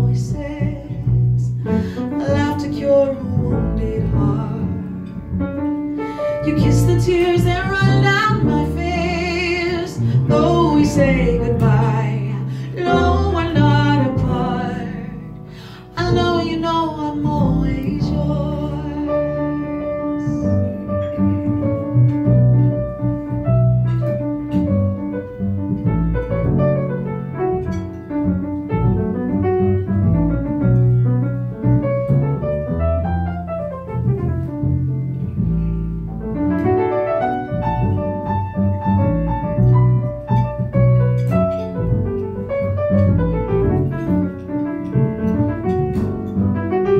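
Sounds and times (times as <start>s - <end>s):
bass line: 0.0s - 46.9s
piano melody: 0.0s - 46.9s.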